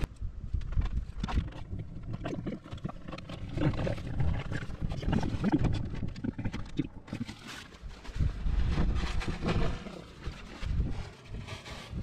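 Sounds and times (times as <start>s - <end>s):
wind rumbling: 0.0s - 12.0s.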